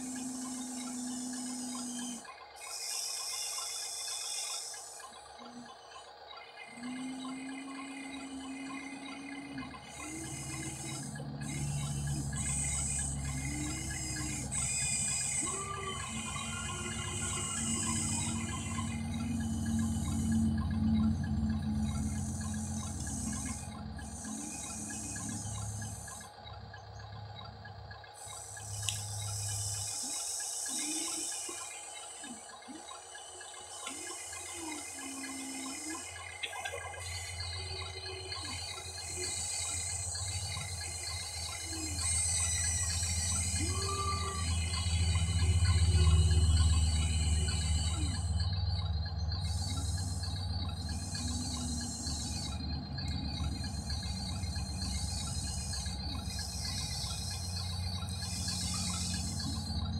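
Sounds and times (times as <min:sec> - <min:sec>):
grinding hiss: 0:00.0 - 0:05.7, 0:06.8 - 0:26.4, 0:28.2 - 0:59.9
electric motors whining: 0:00.0 - 0:59.9.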